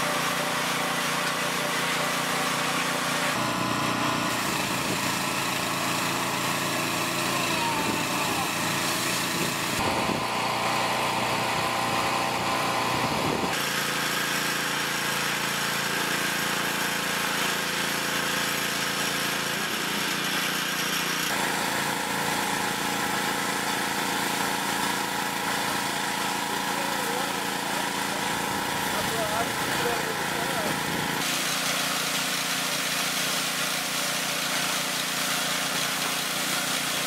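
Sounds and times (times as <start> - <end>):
small gasoline engine running: 0.0 - 37.0.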